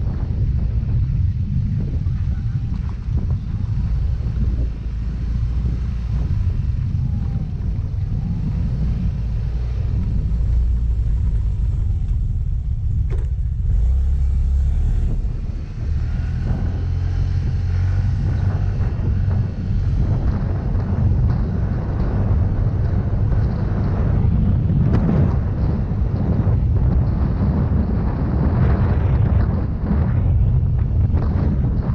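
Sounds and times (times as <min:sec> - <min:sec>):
scooter engine and road rumble: 0:00.0 - 0:31.9
wind buffeting microphone: 0:00.0 - 0:31.9.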